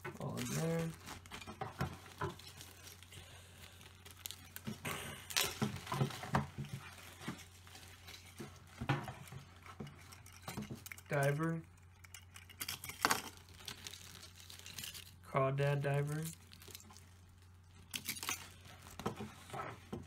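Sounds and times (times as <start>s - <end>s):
plastic packaging rustling: 0.0s - 15.3s, 16.0s - 20.0s.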